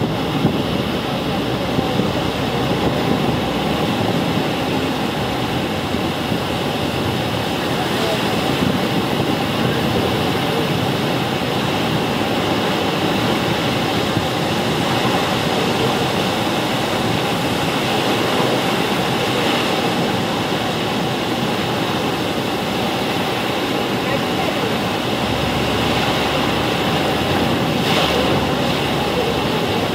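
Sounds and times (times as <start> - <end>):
churning whitewater: 0.0 - 29.9
waterfall rushing: 0.0 - 29.9.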